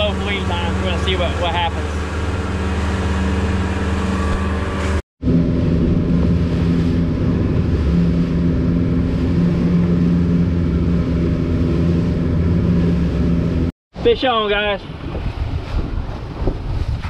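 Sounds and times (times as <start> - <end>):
outboard motor droning: 0.0 - 16.8.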